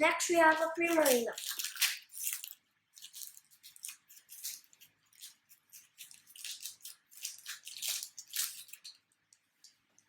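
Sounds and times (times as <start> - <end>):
foil wrapper crinkling and tearing: 0.2 - 9.1.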